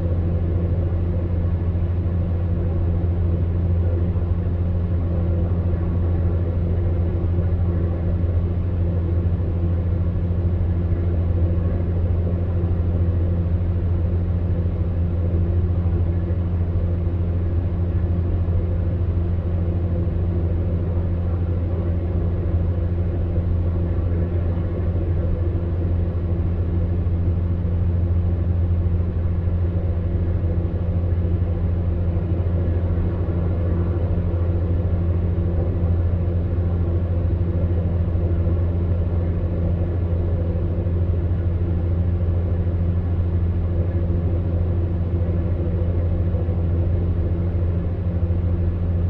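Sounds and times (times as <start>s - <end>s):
fan heater humming: 0.0s - 49.0s.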